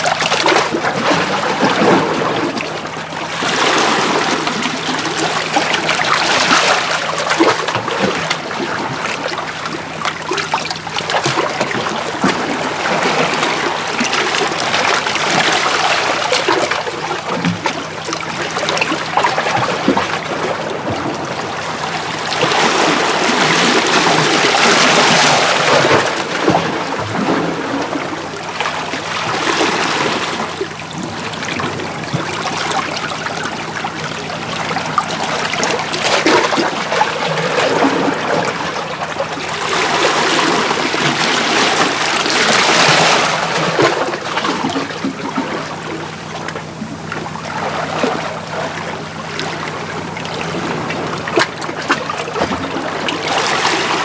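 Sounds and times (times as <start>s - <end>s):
small waves washing over rocks: 0.0s - 33.8s, 34.4s - 46.6s.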